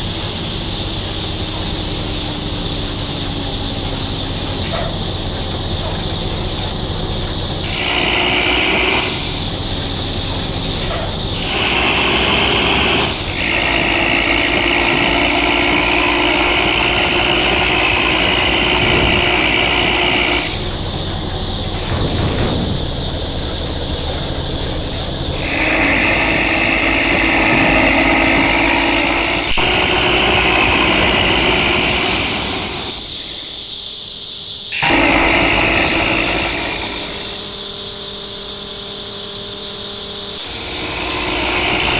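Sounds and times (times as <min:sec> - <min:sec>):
truck engine running hard: 0:00.0 - 0:41.9.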